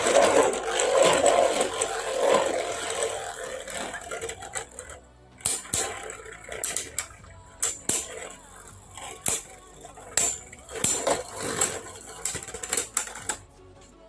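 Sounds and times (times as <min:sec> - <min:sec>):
spinning tops whirring and grinding: 0:00.0 - 0:13.5.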